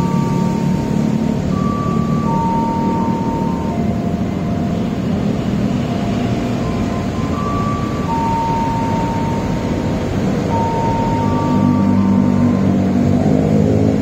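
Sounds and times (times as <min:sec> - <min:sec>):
faint held tones: 0:00.0 - 0:13.2
vehicle rumble: 0:00.0 - 0:14.0.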